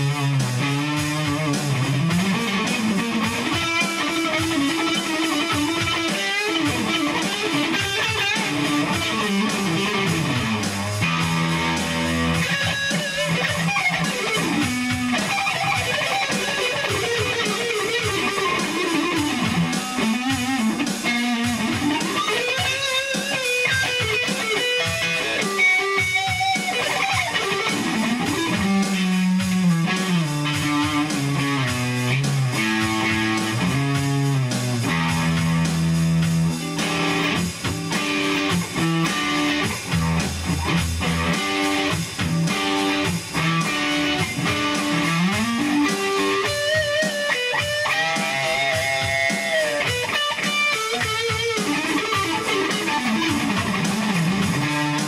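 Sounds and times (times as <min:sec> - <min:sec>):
guitar-led background music: 0:00.0 - 0:55.0.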